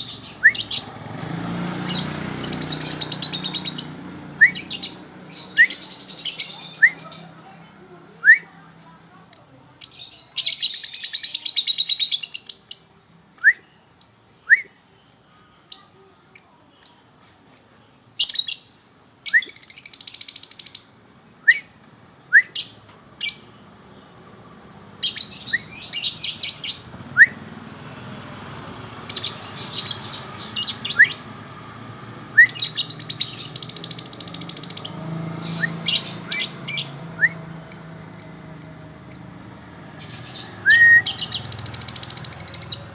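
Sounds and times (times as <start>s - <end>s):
songbird trilling: 0.0s - 7.4s, 8.2s - 18.7s, 25.0s - 31.3s, 32.0s - 42.9s.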